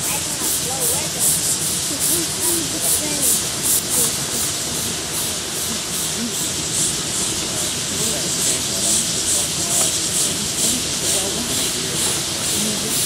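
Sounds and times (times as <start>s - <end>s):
rhythmic exhaust chuff: 0.0s - 13.0s
steam locomotive hissing: 0.0s - 13.0s.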